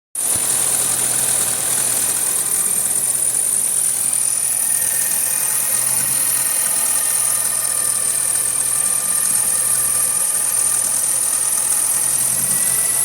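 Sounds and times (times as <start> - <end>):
car high-pitched whine with hiss: 0.2 - 13.0
low hum: 0.8 - 13.0
faint steady tones: 2.2 - 13.0.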